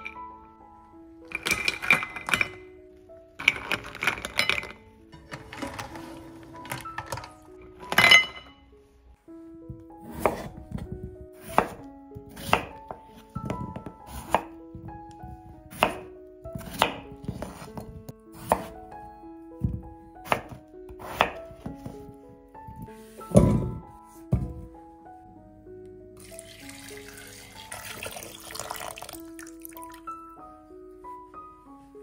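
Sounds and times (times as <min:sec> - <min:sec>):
soft music of held notes: 0:00.0 - 0:32.0.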